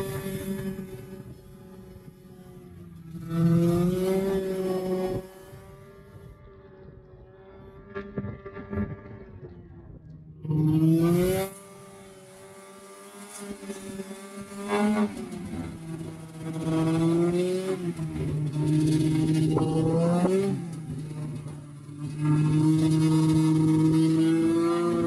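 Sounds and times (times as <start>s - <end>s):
snowmobile engine revving: 0.0s - 9.6s, 10.4s - 25.0s.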